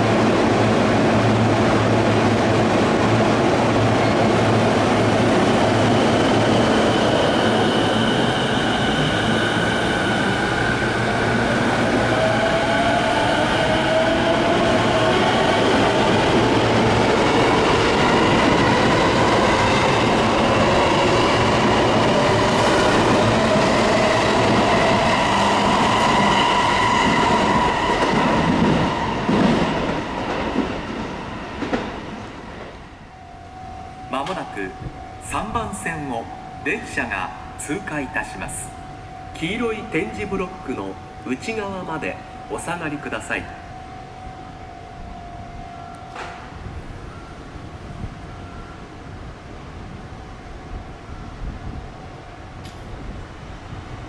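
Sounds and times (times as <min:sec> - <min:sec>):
electric train wheels rumbling: 0:00.0 - 0:54.0
train whine: 0:00.0 - 0:54.0.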